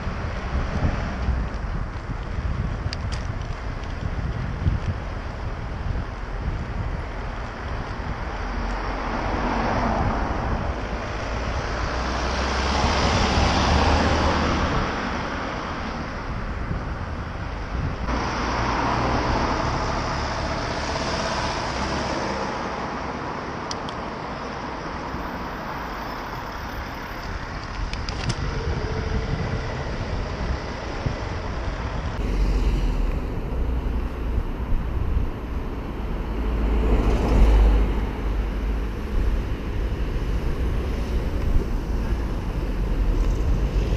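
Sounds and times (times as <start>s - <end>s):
cars passing close by: 5.5s - 43.9s.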